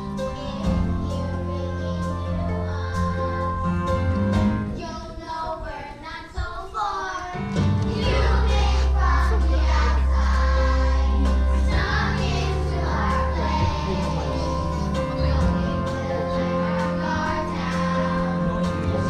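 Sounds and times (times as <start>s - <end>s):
music accompaniment with bass line: 0.0s - 5.0s, 7.4s - 19.0s
children singing: 0.0s - 19.0s.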